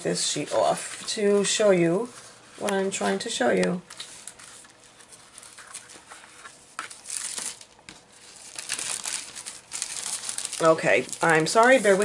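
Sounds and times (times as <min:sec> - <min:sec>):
plastic sheet crinkling: 0:00.5 - 0:12.0.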